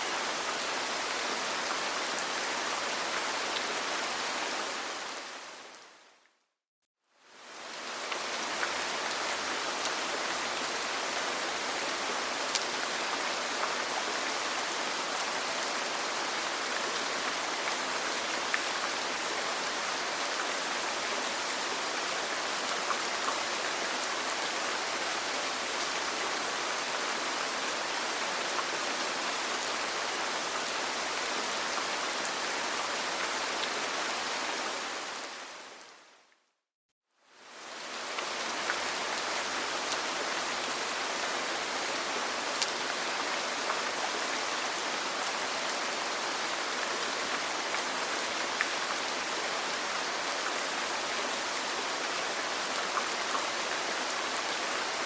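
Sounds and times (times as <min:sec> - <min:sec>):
rain falling: 0:00.0 - 0:06.2, 0:07.2 - 0:36.1, 0:37.4 - 0:55.0.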